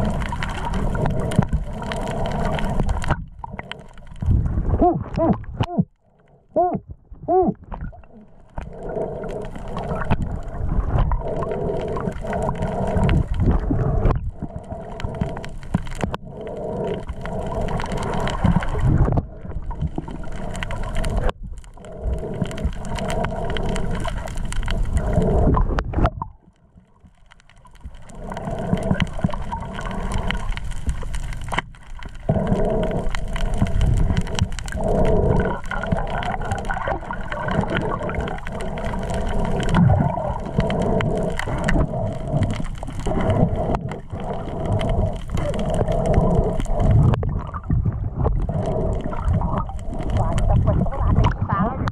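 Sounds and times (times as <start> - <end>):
underwater water rushing: 0.0 - 51.9.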